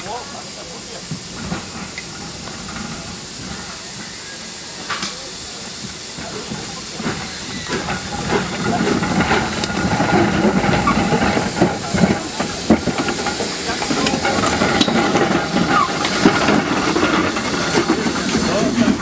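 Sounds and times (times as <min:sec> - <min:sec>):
steam hissing loudly: 0:00.0 - 0:19.0
locomotive clanks and knocks: 0:01.0 - 0:04.2, 0:04.8 - 0:19.0.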